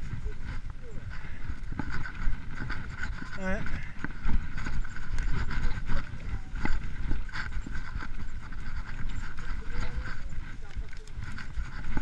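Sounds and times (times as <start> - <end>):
tyres rumbling on dirt trail: 0.0 - 12.0
wind on microphone: 0.0 - 12.0.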